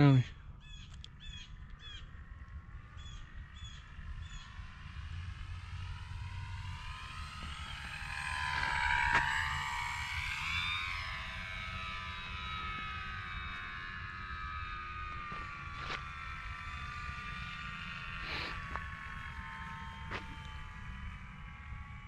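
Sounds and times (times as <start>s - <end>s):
model plane propeller whining: 0.0s - 22.0s.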